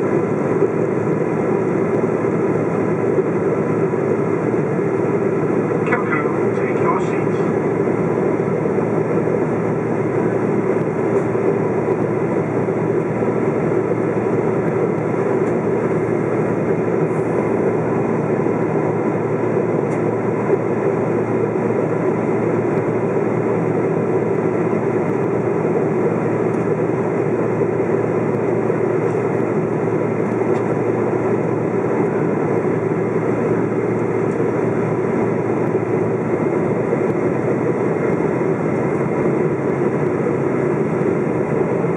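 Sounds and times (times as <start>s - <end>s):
airplane cabin engine rumble: 0.0s - 41.9s
faint steady whine: 0.0s - 41.9s.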